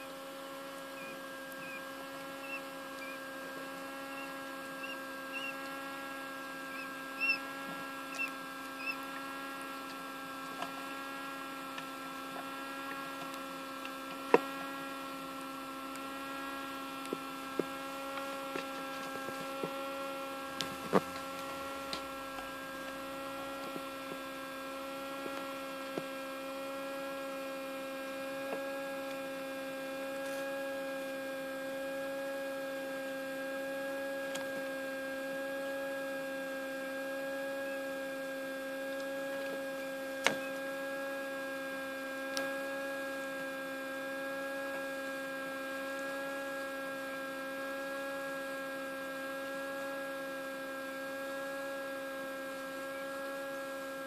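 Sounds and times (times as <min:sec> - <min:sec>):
fan motor humming: 0:00.0 - 0:54.0.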